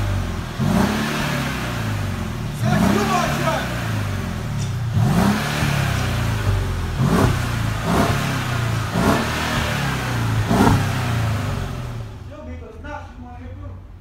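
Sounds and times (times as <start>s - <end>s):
engine revving: 0.0s - 12.3s
car exhaust idling: 0.0s - 14.0s.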